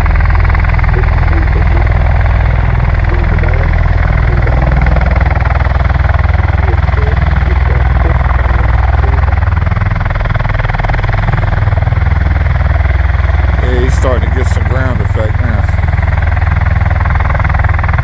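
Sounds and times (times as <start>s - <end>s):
tiltrotor aircraft roaring: 0.0s - 18.0s.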